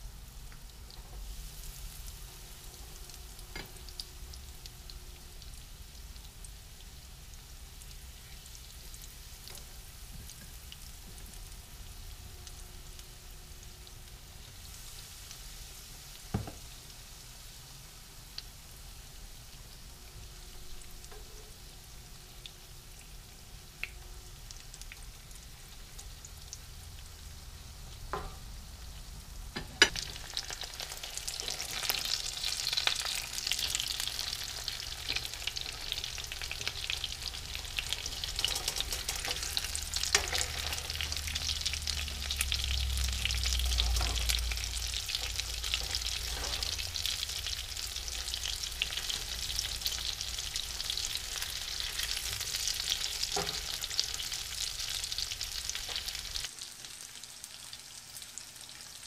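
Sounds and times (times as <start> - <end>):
fish frying in oil: 0.0 - 59.0.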